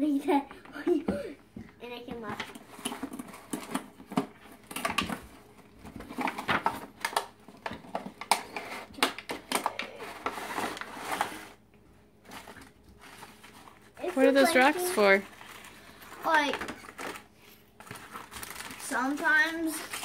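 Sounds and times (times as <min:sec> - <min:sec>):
packaging rustling and crinkling: 0:02.1 - 0:11.6, 0:12.2 - 0:20.0.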